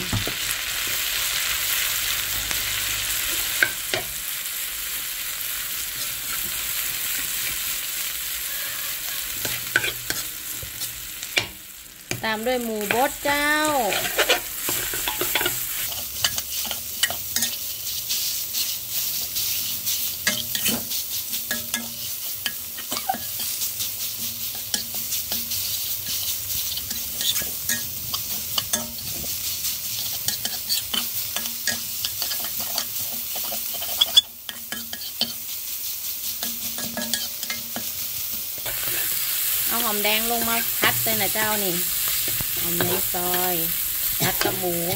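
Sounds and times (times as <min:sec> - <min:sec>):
meat sizzling in oil: 0:00.0 - 0:44.9
metal spatula scraping wok: 0:05.8 - 0:44.9.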